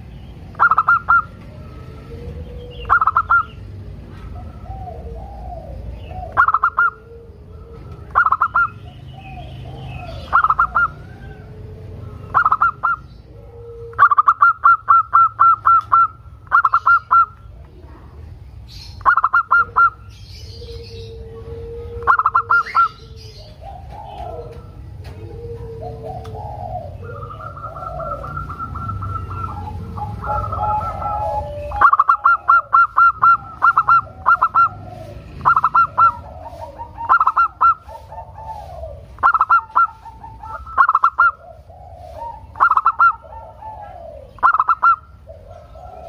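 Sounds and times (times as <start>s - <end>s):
dove cooing: 0.0s - 46.0s.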